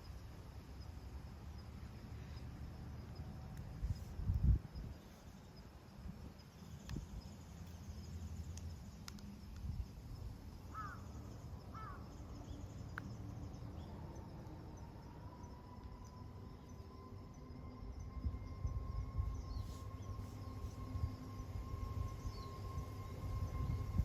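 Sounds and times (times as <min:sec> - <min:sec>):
low wind rumble: 0:00.0 - 0:24.0.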